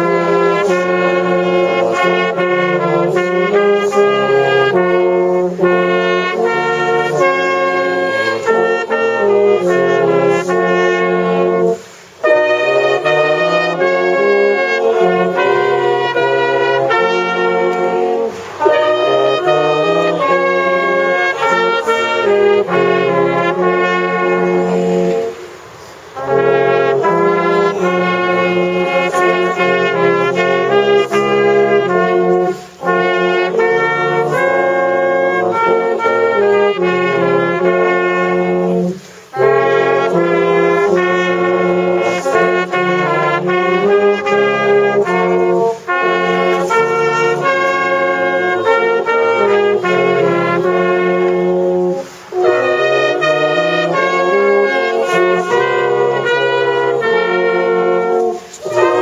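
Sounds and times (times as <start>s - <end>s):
brass band playing a carol: 0.0s - 59.0s.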